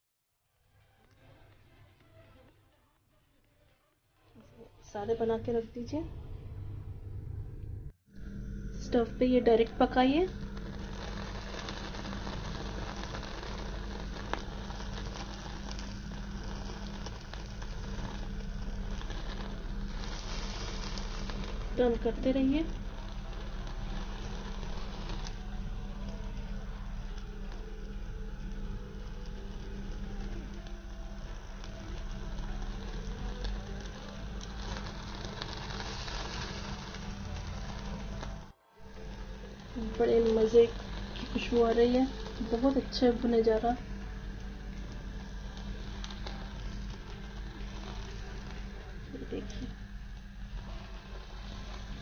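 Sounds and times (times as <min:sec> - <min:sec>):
gas burner flame: 0:04.4 - 0:52.0
steady low hum: 0:04.4 - 0:52.0
chicken sizzling over flame: 0:08.2 - 0:52.0.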